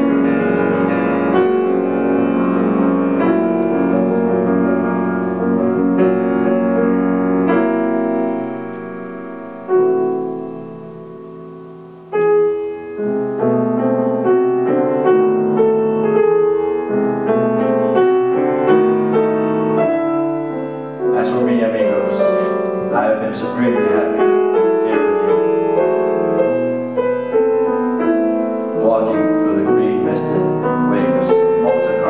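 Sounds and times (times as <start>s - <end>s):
solo grand piano: 0.0s - 32.0s.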